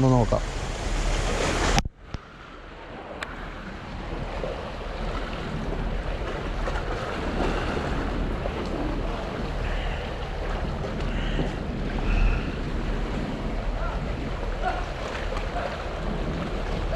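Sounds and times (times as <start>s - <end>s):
waves washing at waterside: 0.0s - 16.9s
wind buffeting microphone: 0.0s - 16.9s.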